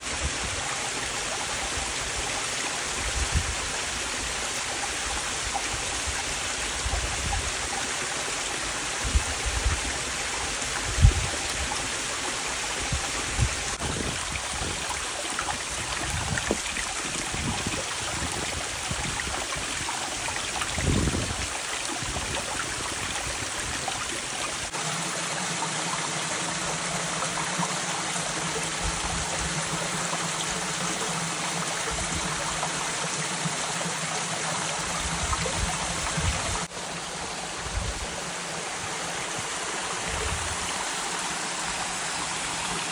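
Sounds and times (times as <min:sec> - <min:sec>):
waterfall pouring: 0:00.0 - 0:42.9.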